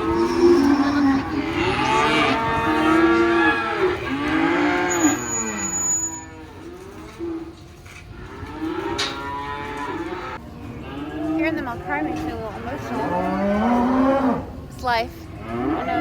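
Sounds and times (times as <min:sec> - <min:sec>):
calves bawling: 0:00.0 - 0:14.5.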